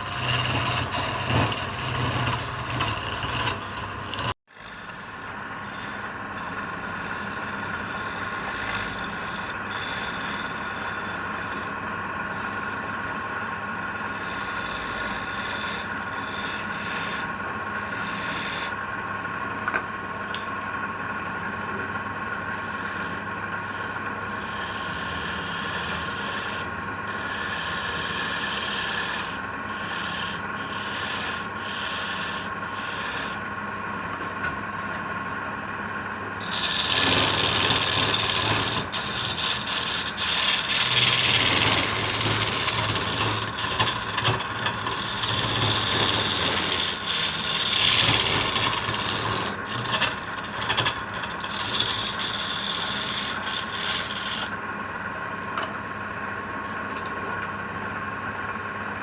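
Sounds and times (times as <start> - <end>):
wood sanding hiss: 0.0 - 18.8, 22.5 - 33.4, 36.4 - 54.6.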